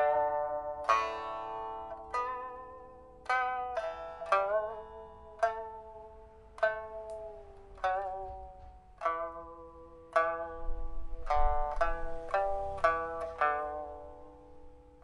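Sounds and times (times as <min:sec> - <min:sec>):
plucked lute notes: 0:00.0 - 0:15.0.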